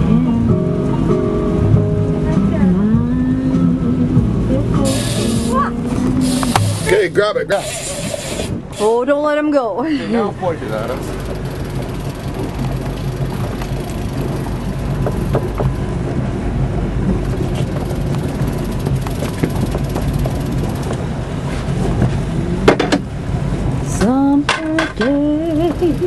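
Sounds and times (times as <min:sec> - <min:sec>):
boat motor humming: 0:00.0 - 0:26.0.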